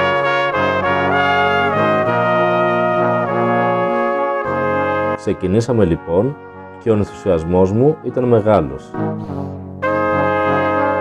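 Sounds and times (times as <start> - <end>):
held instrumental chords: 0.0 - 11.0.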